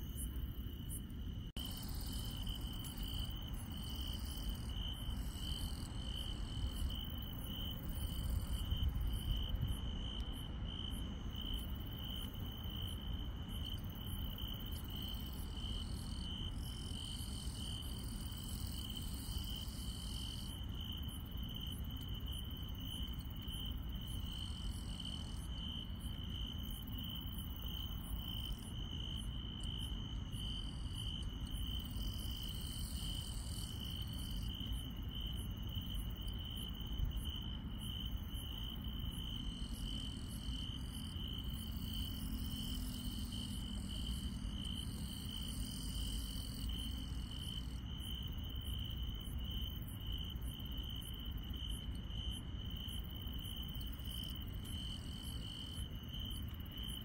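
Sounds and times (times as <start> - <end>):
cricket chirping steadily: 0.0 - 57.0
insects chirring: 0.0 - 57.0.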